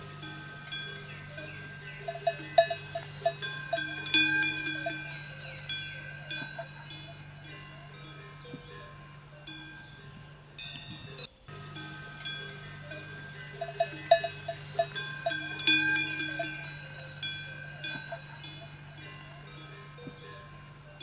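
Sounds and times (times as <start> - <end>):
bells clanking: 0.0 - 21.0
steady low hum: 0.0 - 21.0.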